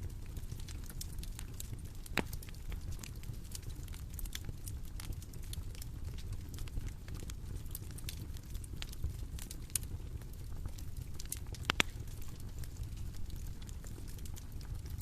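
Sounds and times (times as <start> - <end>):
bonfire rumble: 0.0 - 15.0
wood snapping in fire: 0.1 - 15.0.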